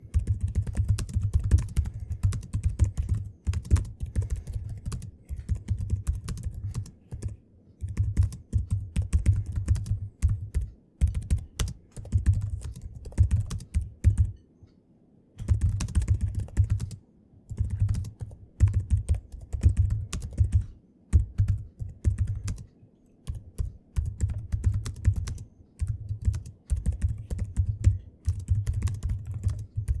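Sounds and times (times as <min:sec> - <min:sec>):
rapid keyboard typing: 0:00.0 - 0:14.4, 0:15.4 - 0:30.0.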